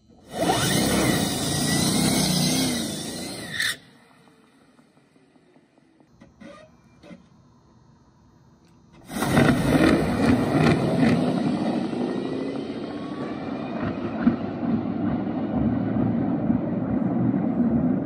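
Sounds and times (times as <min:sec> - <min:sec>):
dragster launching: 0:00.0 - 0:07.2, 0:09.0 - 0:17.1.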